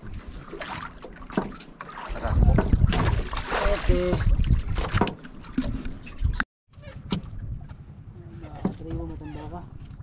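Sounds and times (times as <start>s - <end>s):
water splashing around boat: 0.0s - 10.0s.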